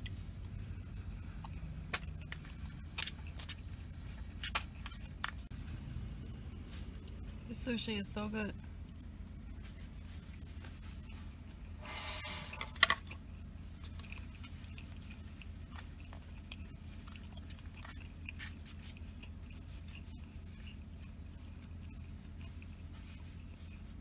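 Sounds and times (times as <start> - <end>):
chewing sushi: 0.0 - 7.4, 8.5 - 24.0
steady low hum: 0.0 - 24.0.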